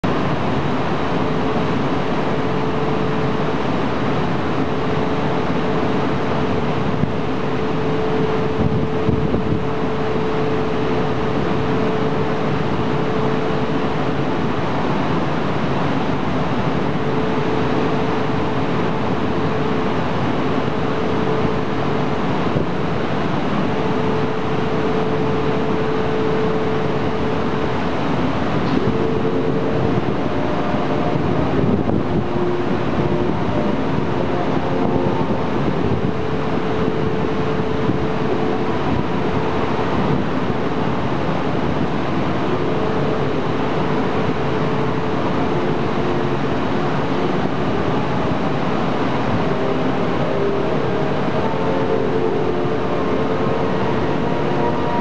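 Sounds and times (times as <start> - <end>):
faint hum: 0.0 - 55.0
train running noise: 0.0 - 55.0.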